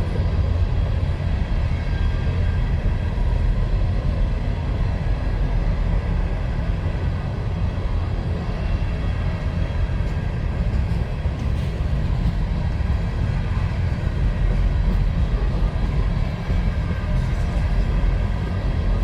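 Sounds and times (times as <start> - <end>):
freight train wheels on rail: 0.0 - 19.0.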